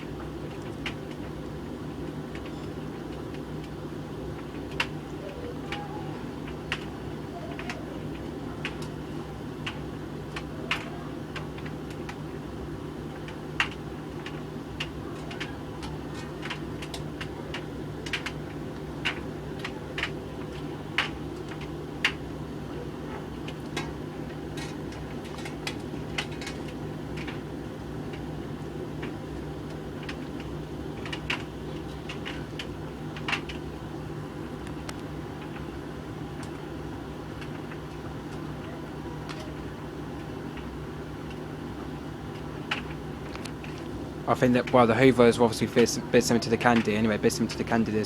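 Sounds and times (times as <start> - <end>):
tumble dryer motor and drum hum: 0.0 - 48.0.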